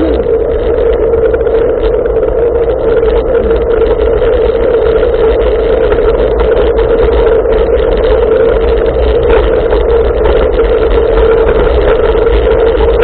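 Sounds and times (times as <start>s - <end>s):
tyres humming on asphalt: 0.0s - 13.0s
wind rumble on microphone: 0.0s - 13.0s.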